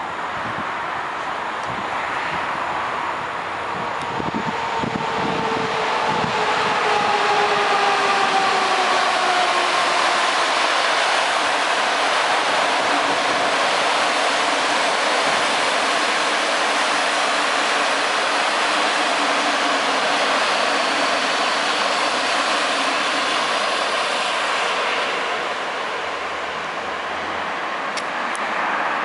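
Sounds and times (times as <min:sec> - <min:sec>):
train wheels rushing on rails: 0:00.0 - 0:29.0.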